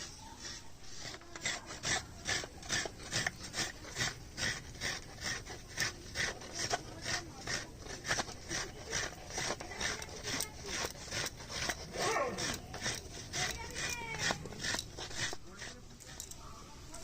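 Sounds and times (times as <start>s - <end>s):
coconut grating scrapes: 0.0s - 17.0s.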